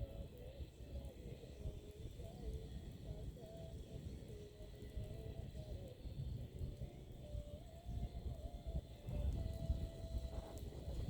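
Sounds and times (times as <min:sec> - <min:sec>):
bonfire burning rumble: 0:00.0 - 0:11.0
fire crackling: 0:00.0 - 0:11.0.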